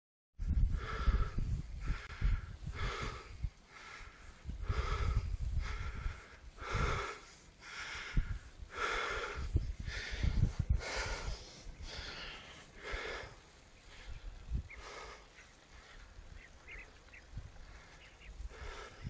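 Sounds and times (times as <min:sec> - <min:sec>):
wind rumbling on microphone: 0:00.4 - 0:19.0
person breathing hard: 0:00.5 - 0:16.2, 0:17.6 - 0:19.0.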